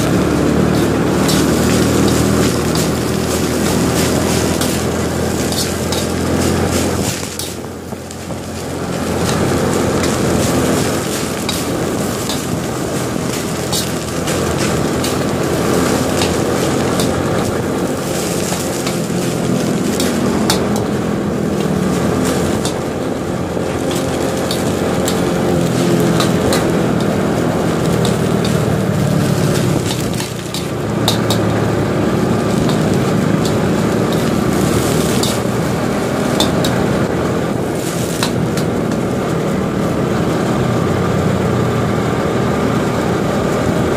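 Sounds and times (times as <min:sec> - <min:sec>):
road and wind noise: 0:00.0 - 0:43.9
scooter engine running: 0:00.0 - 0:43.9.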